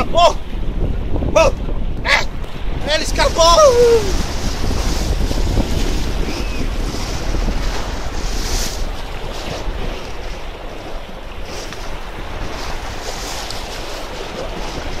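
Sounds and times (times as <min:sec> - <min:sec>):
waves splashing against rocks: 0:00.0 - 0:15.0
wind rumble on microphone: 0:00.0 - 0:15.0.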